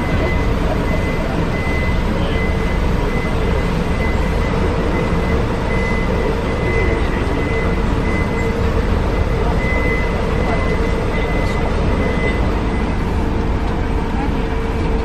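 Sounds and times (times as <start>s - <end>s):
bus engine and road noise: 0.0s - 15.0s
thin steady whine: 0.0s - 15.0s.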